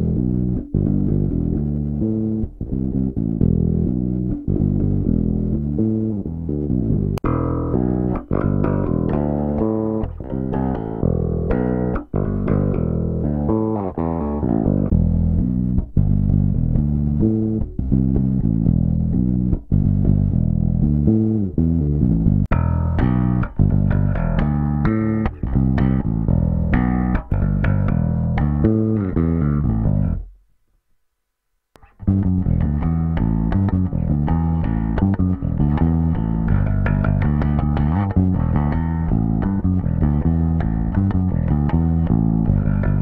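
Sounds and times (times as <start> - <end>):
electric bass guitar playing: 0.0 - 30.4, 31.8 - 43.0.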